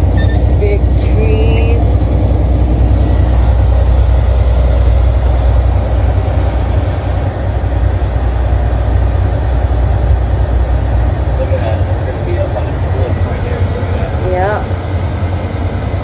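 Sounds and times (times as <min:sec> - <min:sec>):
road noise: 0:00.0 - 0:16.0
truck diesel engine rumble: 0:00.0 - 0:16.0.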